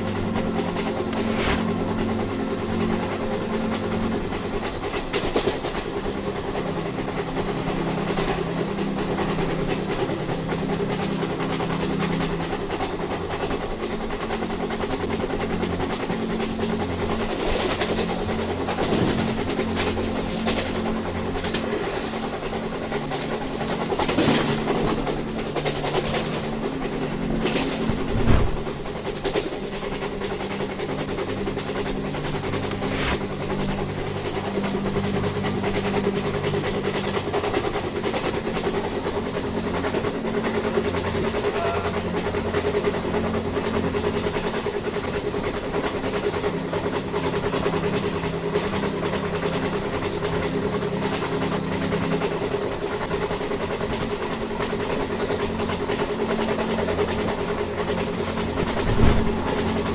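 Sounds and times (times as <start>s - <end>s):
constant hum: 0.0s - 59.9s
rail and wheel noise: 0.0s - 59.9s
train engine drone: 0.0s - 59.9s.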